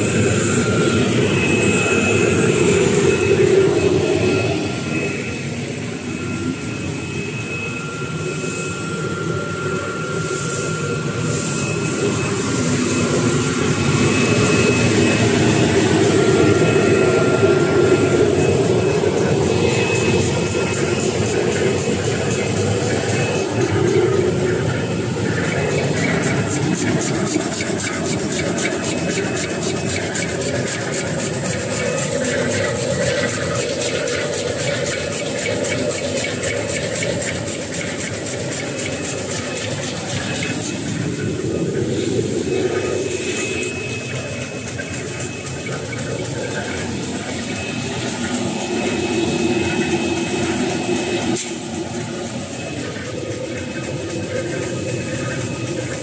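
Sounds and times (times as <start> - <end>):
high machine whine: 0.0 - 56.0.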